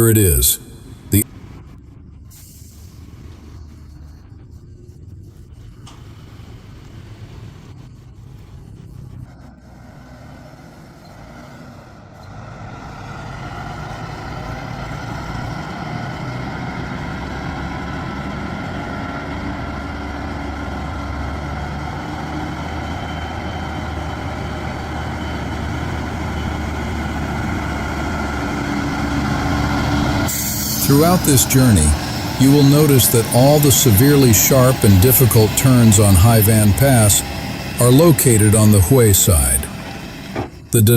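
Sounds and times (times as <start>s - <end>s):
truck diesel engine labouring: 0.0s - 40.9s.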